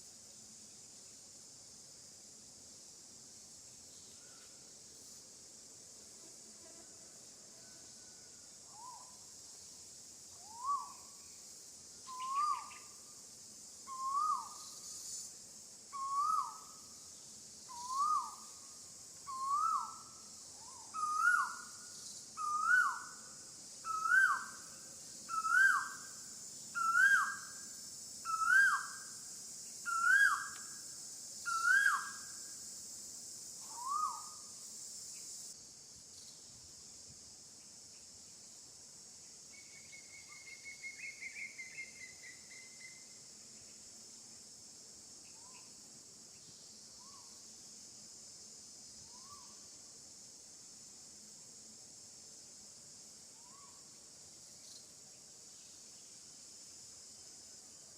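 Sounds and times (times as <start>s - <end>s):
high insect drone: 0.0s - 57.9s.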